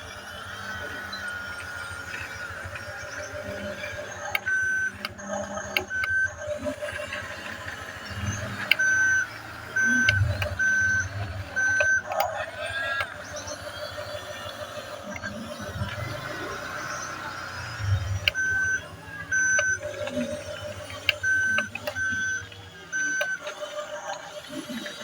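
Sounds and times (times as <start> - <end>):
reversing beeps: 0.0 - 25.0
toy engine drone: 0.0 - 25.0.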